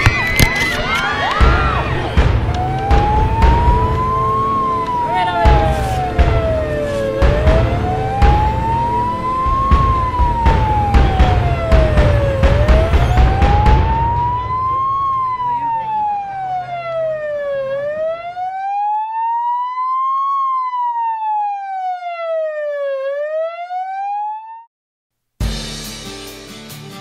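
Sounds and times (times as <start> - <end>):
ambulance siren wailing: 0.0 - 24.7.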